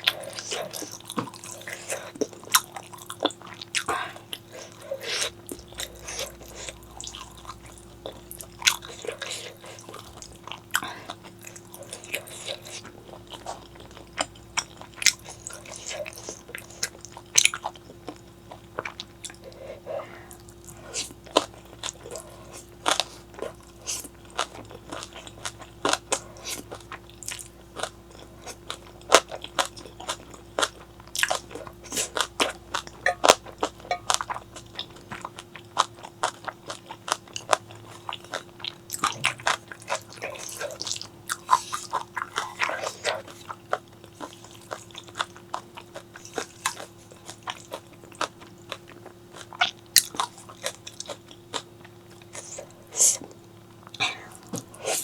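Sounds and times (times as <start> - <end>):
faint steady hum: 0.0 - 55.0
person chewing crunchy food: 0.0 - 55.0.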